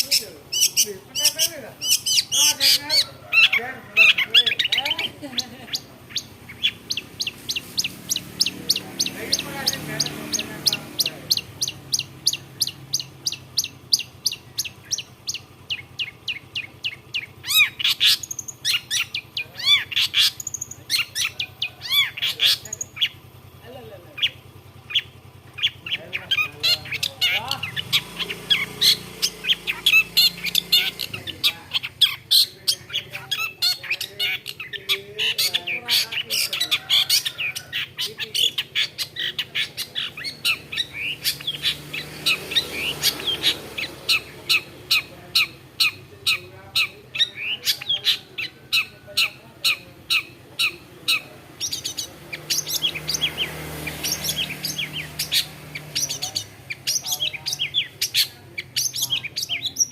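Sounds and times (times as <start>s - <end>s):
bird singing sharp high notes: 5.7s - 23.2s, 24.2s - 59.9s.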